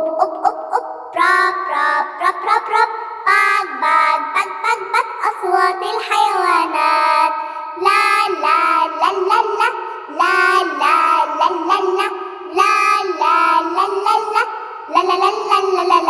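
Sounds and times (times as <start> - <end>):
child singing: 0.0 - 16.0.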